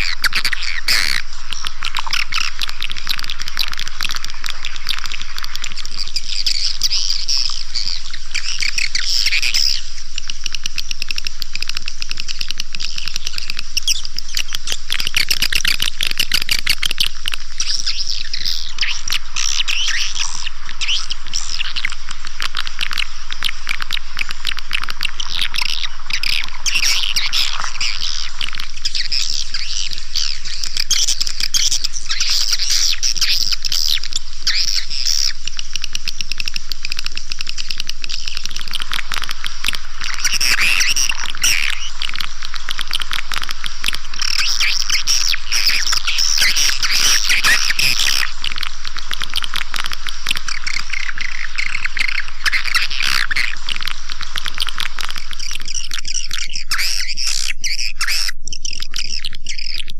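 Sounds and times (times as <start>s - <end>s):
swiftlets twittering: 0.0s - 59.9s.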